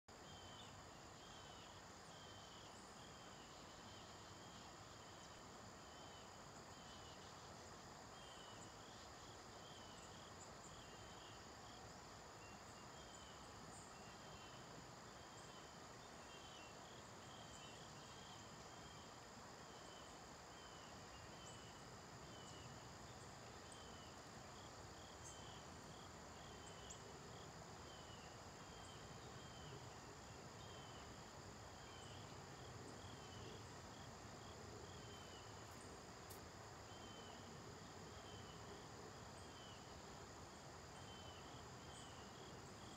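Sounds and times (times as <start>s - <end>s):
insects trilling: 0.1s - 42.9s
soft hiss: 0.1s - 42.9s.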